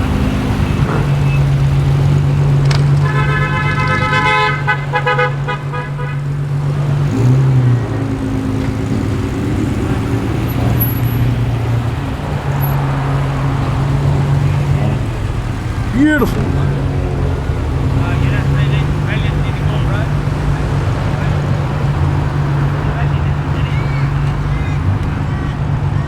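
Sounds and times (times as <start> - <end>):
car engines running: 0.0 - 26.0
car horn toots: 0.0 - 26.0.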